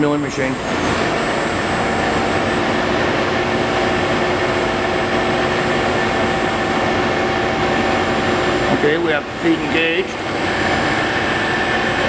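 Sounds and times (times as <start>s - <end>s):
milling machine spindle running: 0.0s - 12.0s.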